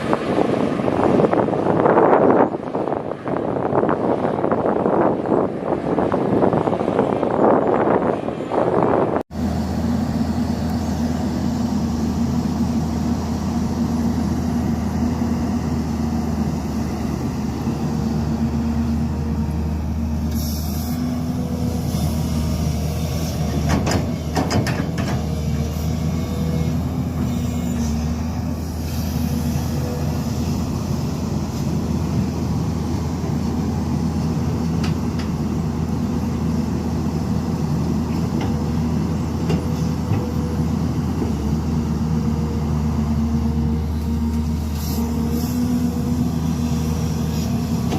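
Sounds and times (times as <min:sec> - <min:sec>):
diesel engine drone: 0:00.0 - 0:47.9.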